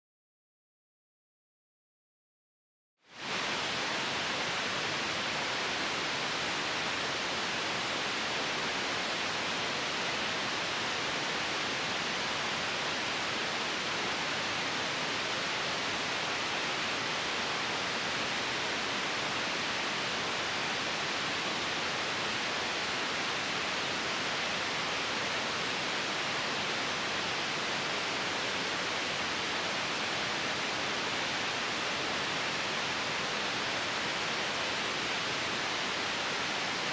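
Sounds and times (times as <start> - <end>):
white noise hiss: 3.0 - 36.9.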